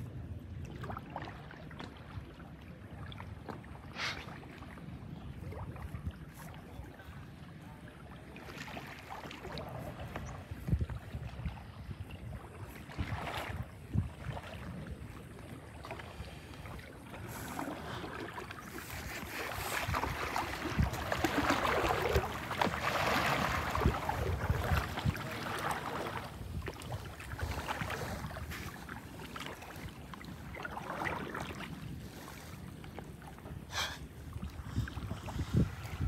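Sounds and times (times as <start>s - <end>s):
wind rumbling on microphone: 0.0s - 8.4s, 9.0s - 36.0s
water sloshing around kayak: 0.0s - 36.0s.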